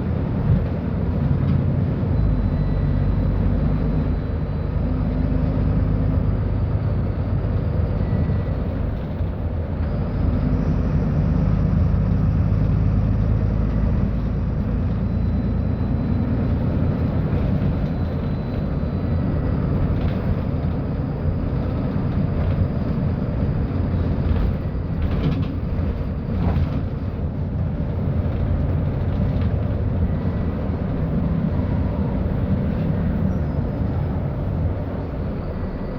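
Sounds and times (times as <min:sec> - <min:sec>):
bus diesel engine rumbling: 0:00.0 - 0:35.9.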